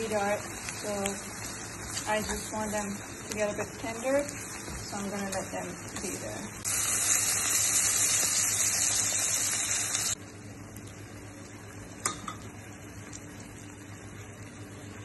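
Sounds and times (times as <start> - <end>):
sauce simmering sizzle: 0.0 - 15.0
water sizzling in hot wok: 0.0 - 15.0.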